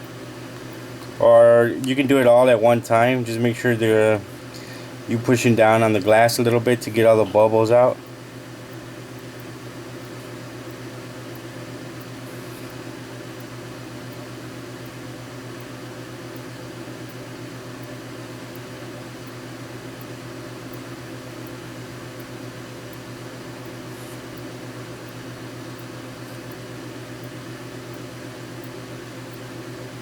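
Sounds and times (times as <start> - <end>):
electrical hum: 0.0 - 30.0
fan-like hiss: 0.0 - 30.0.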